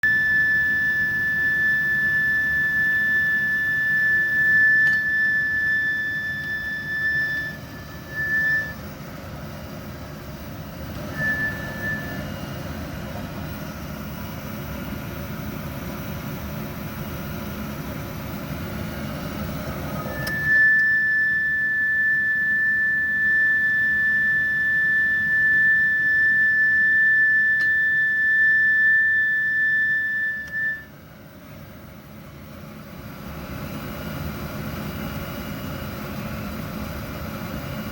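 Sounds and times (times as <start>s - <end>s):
furnace high-pitched squeal: 0.0s - 31.0s.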